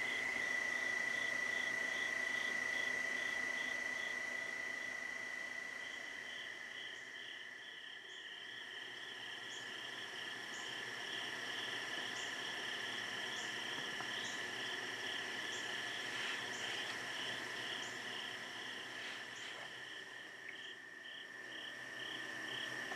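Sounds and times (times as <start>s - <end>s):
crickets and insects droning: 0.0s - 22.9s.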